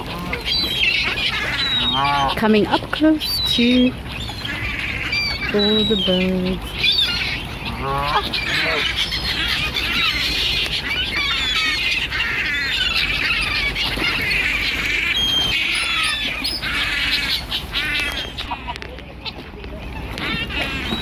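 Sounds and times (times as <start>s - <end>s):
flock of birds squawking: 0.0s - 21.0s.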